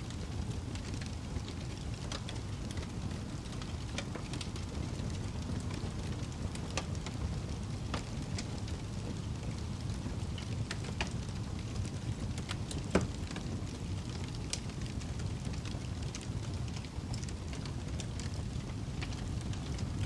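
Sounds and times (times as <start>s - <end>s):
fire crackling and popping: 0.0s - 20.0s
low rush of flames: 0.0s - 20.0s.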